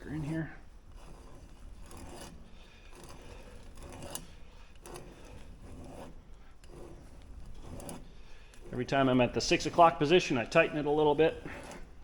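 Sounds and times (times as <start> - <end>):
filter cutter scraping steel: 0.0 - 12.0.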